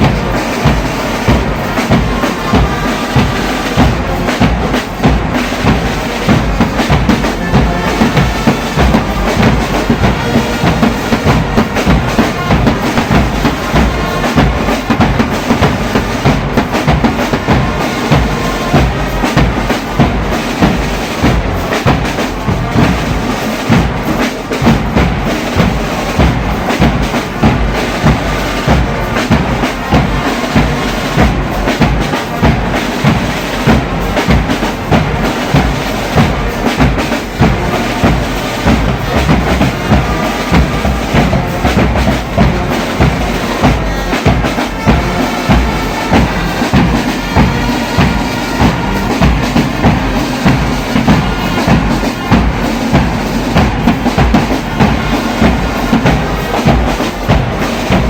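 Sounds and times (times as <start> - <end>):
bass drum beat: 0.0 - 58.0
brass band playing: 0.0 - 58.0.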